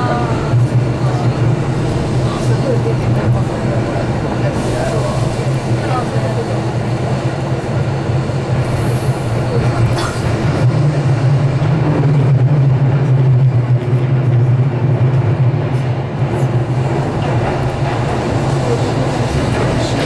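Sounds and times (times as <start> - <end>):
train rumbling through tunnel: 0.0 - 20.0.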